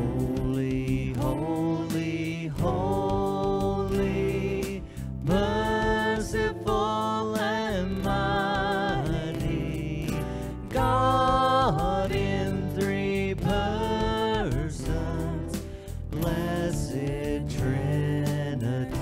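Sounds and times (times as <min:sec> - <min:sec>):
acoustic guitar: 0:00.0 - 0:19.0
man and woman singing a hymn: 0:00.0 - 0:19.0.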